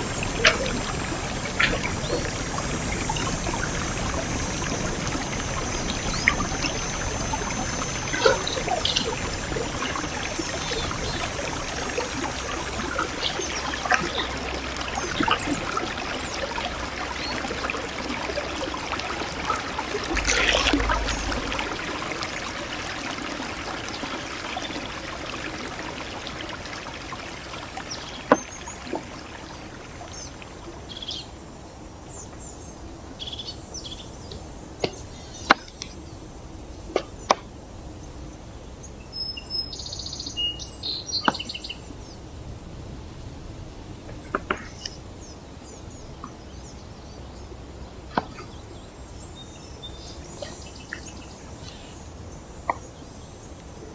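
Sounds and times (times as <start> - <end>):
faint insect drone: 0.0 - 53.9.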